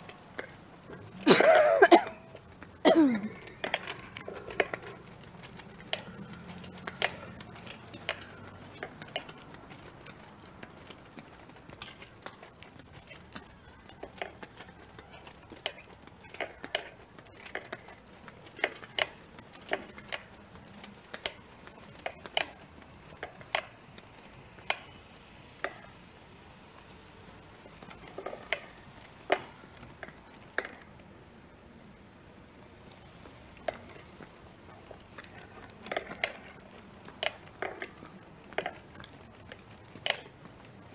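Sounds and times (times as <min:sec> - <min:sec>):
footsteps: 0:00.0 - 0:31.0, 0:32.8 - 0:40.9.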